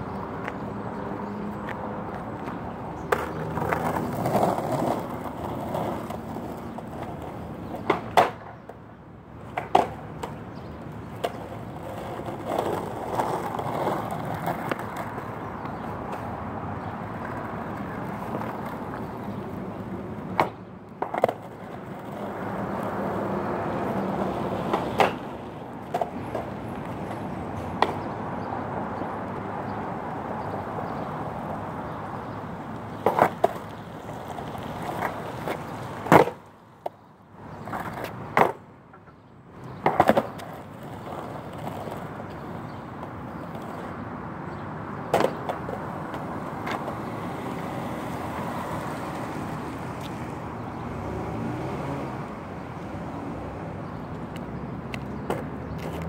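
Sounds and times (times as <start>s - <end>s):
skateboard wheels rolling on asphalt: 0.0s - 56.0s
skateboard clacking on pavement: 0.1s - 50.9s, 53.8s - 56.0s.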